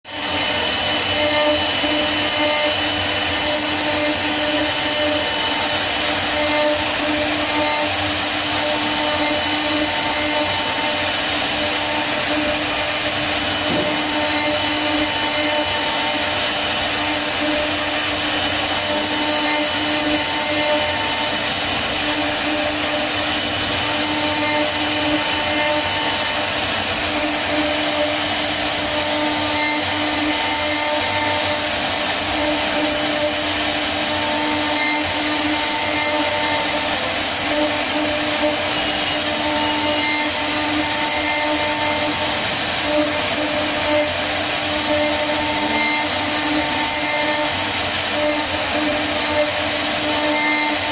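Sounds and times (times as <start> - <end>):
router spindle humming: 0.0 - 50.9
wood cutting hiss: 0.1 - 50.9.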